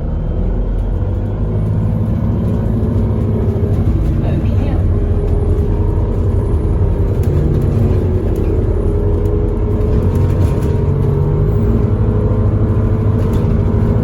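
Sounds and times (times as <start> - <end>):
bus engine rumbling inside cabin: 0.0 - 14.0.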